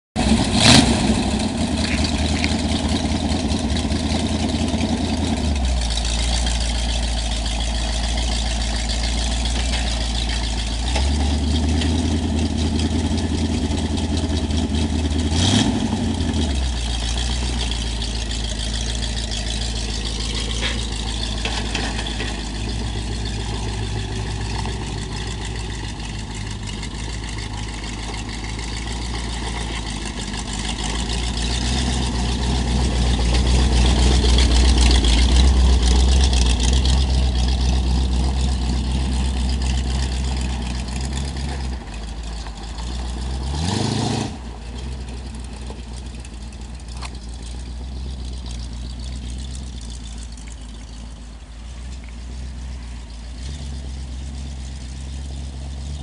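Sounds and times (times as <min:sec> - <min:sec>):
race car engine idling: 0:00.2 - 0:56.0.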